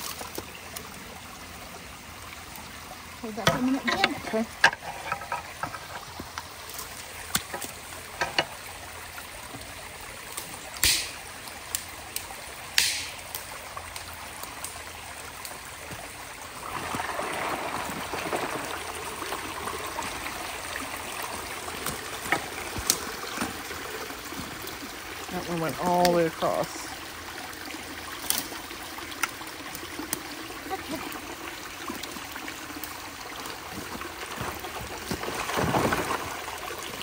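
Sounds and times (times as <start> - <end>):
water running through a culvert: 0.0 - 37.0.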